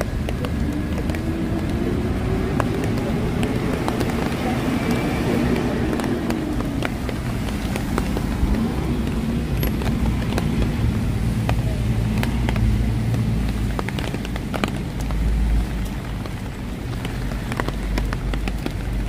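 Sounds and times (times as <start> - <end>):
cars passing on wet street: 0.0 - 19.0
raindrops ticking: 0.0 - 19.0.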